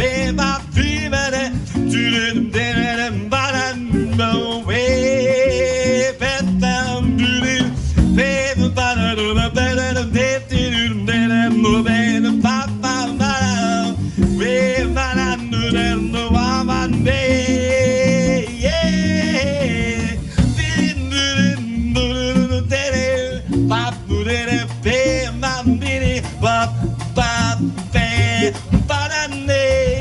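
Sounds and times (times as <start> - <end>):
double bass: 0.0 - 30.0
drums: 0.0 - 30.0
plucked guitar: 0.0 - 30.0.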